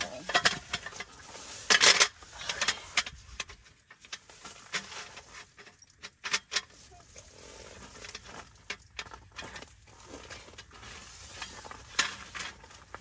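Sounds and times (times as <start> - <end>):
clicks and knocks of gear: 0.0 - 13.0.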